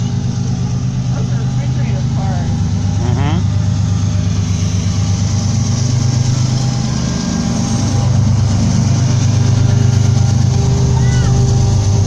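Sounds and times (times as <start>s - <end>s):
locomotive engine humming: 0.0s - 12.0s.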